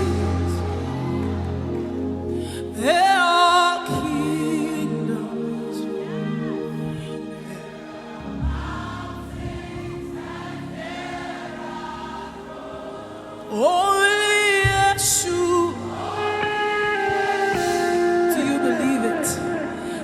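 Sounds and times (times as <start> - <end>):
keyboard pad: 0.0 - 20.0
lead voice singing: 0.0 - 20.0
soft choir singing: 0.0 - 20.0.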